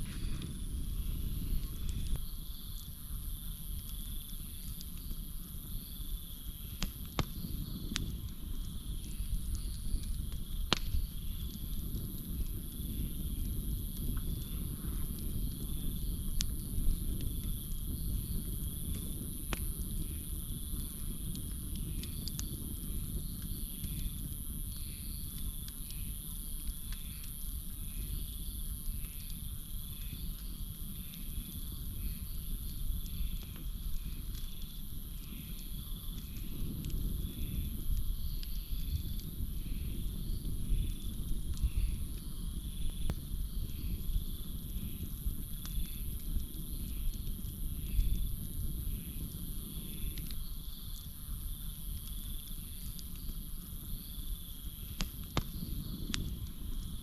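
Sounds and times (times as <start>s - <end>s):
campfire crackling and popping: 0.0s - 57.0s
night insects droning: 0.0s - 57.0s
pulsing insect chorus: 0.0s - 57.0s.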